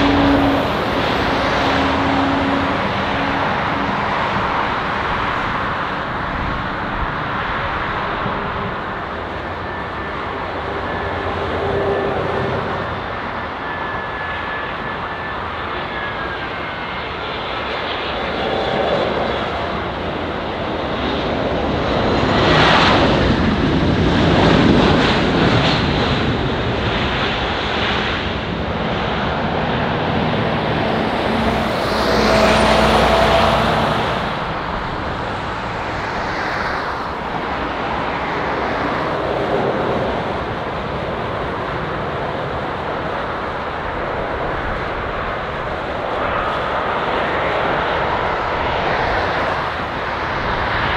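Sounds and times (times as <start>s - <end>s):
jet engine noise: 0.0s - 50.9s.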